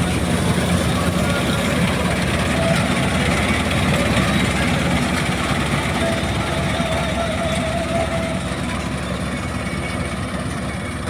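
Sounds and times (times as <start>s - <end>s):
combine harvester drone: 0.0s - 11.0s.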